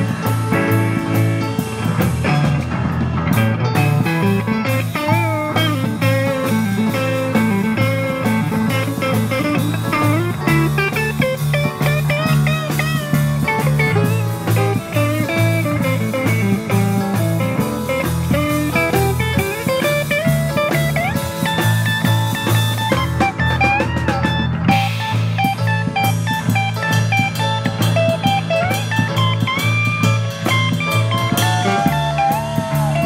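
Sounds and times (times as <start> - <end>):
drum beat: 0.0 - 33.0
electric guitar lead bending notes: 0.0 - 33.0
keyboard: 0.0 - 33.0
low bass line: 0.0 - 33.0.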